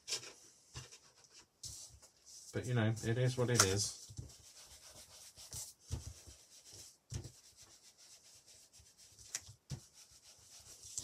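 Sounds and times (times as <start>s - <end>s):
hands rubbing paper card: 0.0s - 11.0s.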